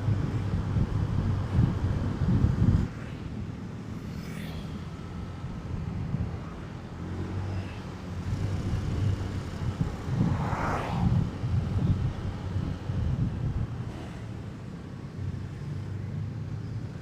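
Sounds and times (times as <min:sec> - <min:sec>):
rush of wind or passing traffic: 0:00.0 - 0:17.0.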